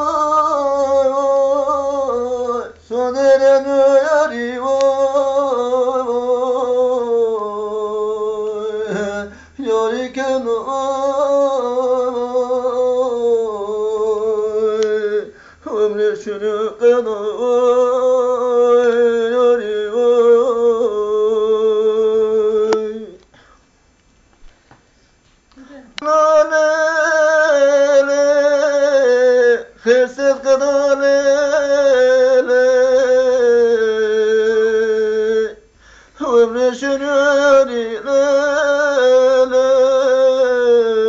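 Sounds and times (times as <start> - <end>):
man singing unaccompanied: 0.0 - 23.2, 25.6 - 41.0.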